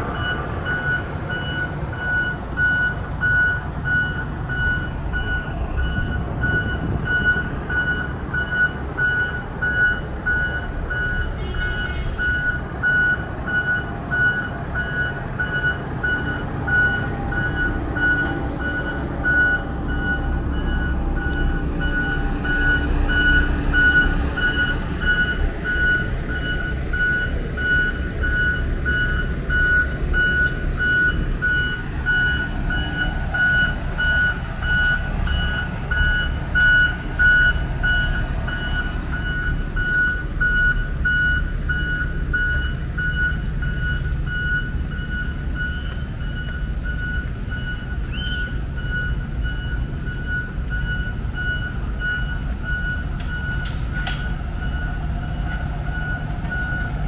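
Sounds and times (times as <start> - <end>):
heavy machinery engines rumbling: 0.0 - 57.0
reversing alarm beeping: 0.0 - 57.0.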